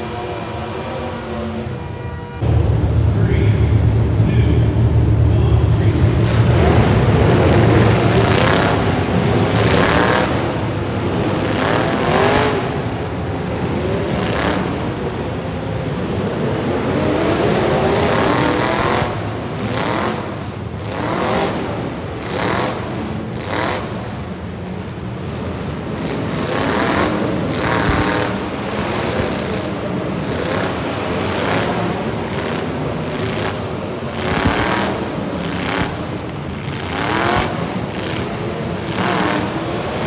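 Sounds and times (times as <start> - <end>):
car engines revving: 0.0 - 40.0
cars crashing: 2.4 - 40.0.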